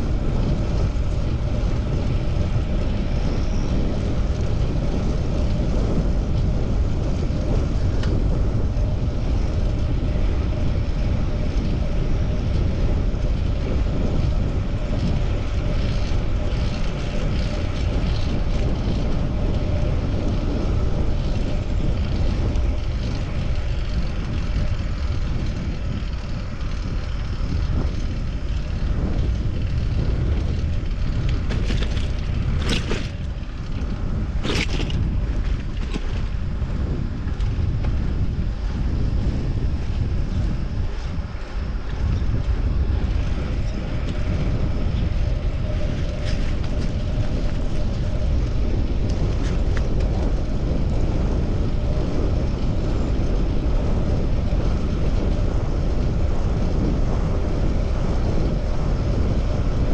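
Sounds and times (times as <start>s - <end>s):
bicycle tyre road noise: 0.0s - 59.9s
wind rumble on microphone: 0.0s - 59.9s.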